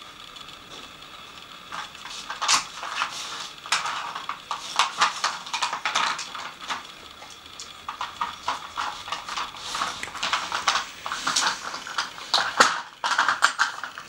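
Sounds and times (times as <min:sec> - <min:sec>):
plastic pieces clacking and rattling: 0:01.7 - 0:14.0.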